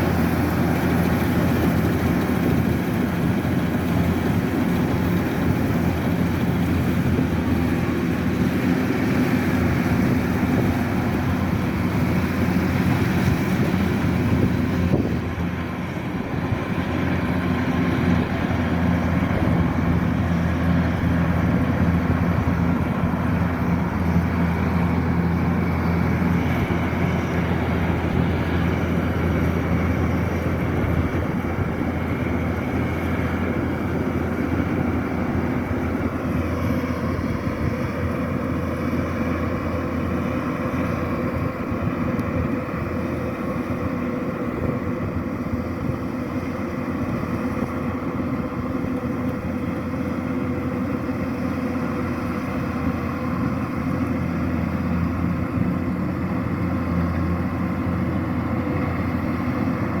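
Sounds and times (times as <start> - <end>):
combine harvester engine running: 0.0 - 60.0.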